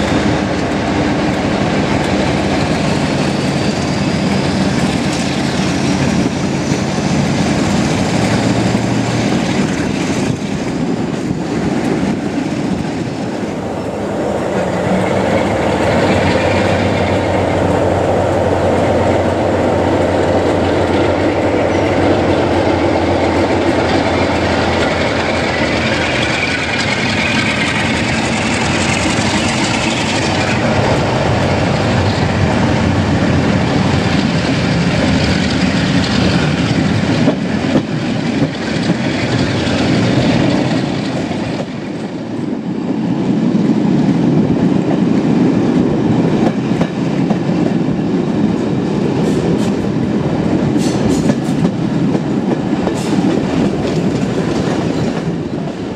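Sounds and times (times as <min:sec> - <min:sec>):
train rumble and wheel clatter: 0:00.0 - 0:55.9.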